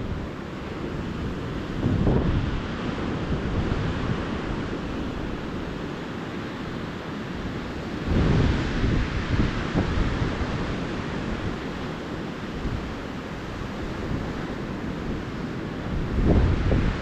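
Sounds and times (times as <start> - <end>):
ocean surf washing on beach: 0.0 - 17.0
wind rumbling on microphone: 0.0 - 17.0.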